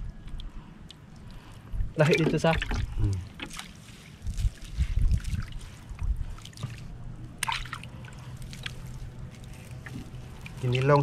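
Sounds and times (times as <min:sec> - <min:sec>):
water sloshing and trickling: 0:00.0 - 0:11.0
light splashes and knocks: 0:02.0 - 0:11.0.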